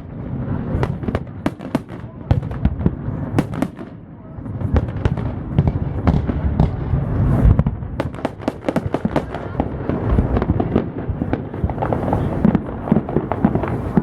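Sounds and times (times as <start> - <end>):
deep fireworks booms: 0.0 - 14.0
fireworks crackling and popping: 0.0 - 14.0.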